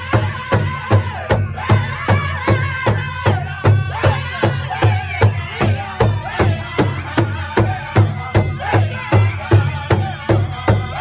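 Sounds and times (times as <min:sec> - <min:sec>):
large drum beating: 0:00.0 - 0:11.0
men singing: 0:00.0 - 0:11.0.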